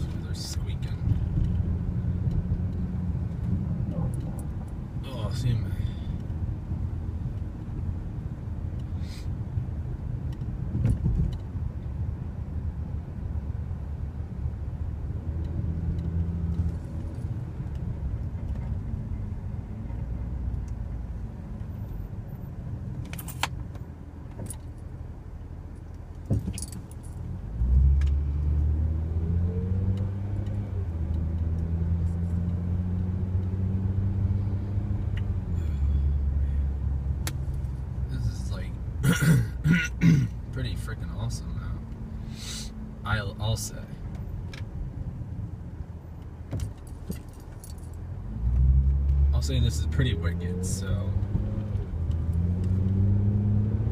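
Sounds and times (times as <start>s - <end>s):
car engine from inside cabin: 0.0s - 53.9s
road noise on snow: 0.0s - 53.9s.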